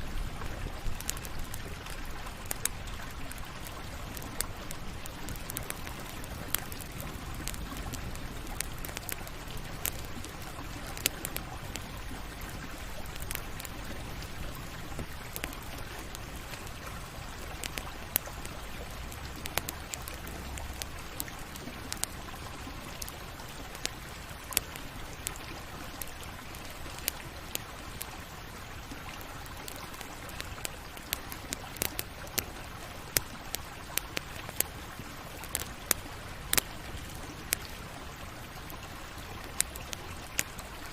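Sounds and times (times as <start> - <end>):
campfire crackling: 0.0 - 40.9
fire snaps and pops: 0.2 - 40.9.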